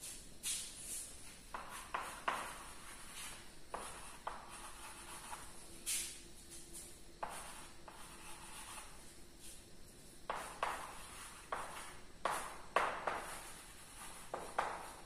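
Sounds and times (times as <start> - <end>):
chalk scratching on blackboard: 0.5 - 9.6, 10.3 - 15.0.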